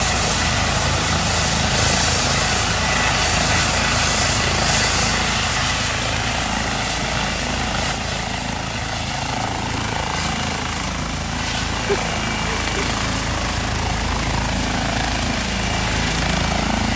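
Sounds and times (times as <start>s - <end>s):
aircraft engine roar: 0.0s - 16.9s.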